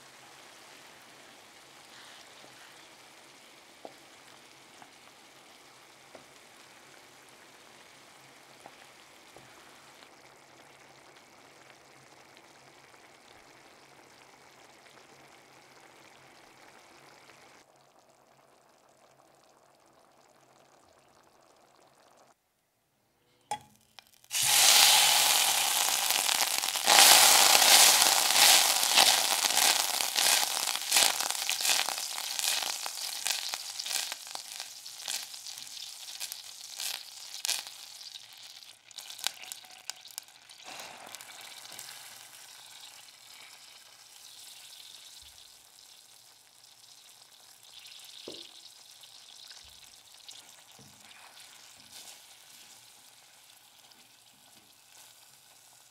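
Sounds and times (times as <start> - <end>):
butter sizzling in a saucepan: 0.0 - 22.3, 23.5 - 55.9.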